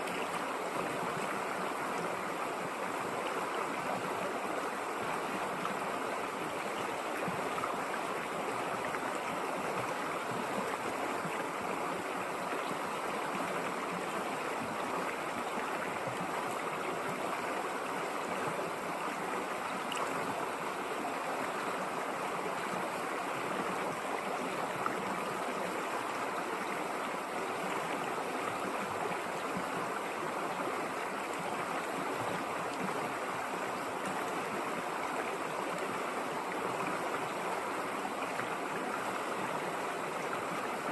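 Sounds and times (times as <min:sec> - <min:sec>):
river running over rocks: 0:00.0 - 0:40.9.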